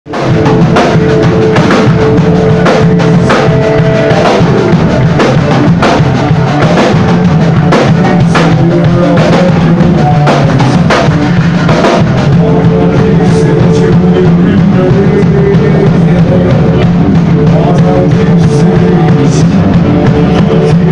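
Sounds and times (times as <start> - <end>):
electric guitars: 0.0 - 20.9
drum kit beat: 0.1 - 20.9.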